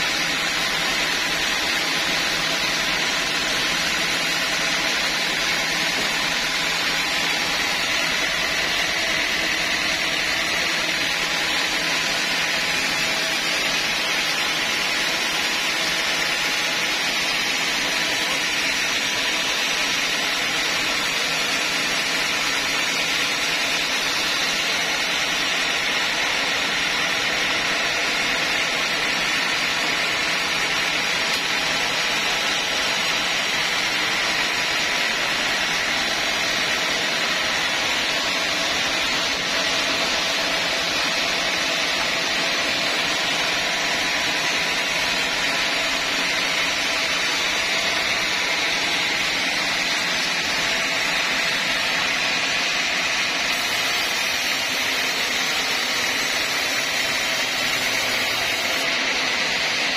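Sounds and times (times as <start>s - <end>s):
band sawmill whirring: 0.0s - 59.9s.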